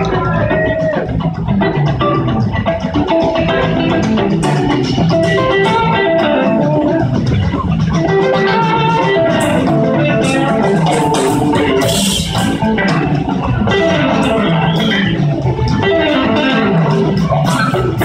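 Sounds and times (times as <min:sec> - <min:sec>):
bass guitar: 0:00.0 - 0:18.0
drums: 0:00.0 - 0:18.0
electric guitars: 0:00.0 - 0:18.0.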